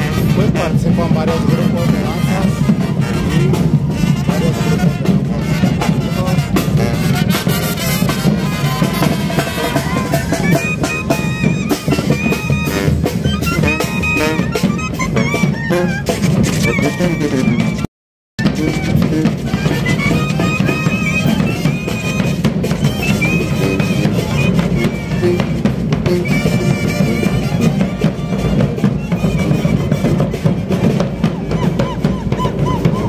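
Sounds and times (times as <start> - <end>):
live brass band music: 0.0 - 33.0
high held notes: 1.5 - 17.8, 18.4 - 33.0.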